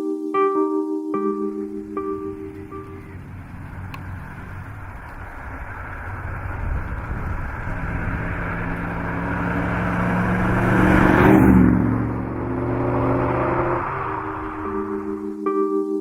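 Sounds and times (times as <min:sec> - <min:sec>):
car engine running: 0:01.3 - 0:15.5.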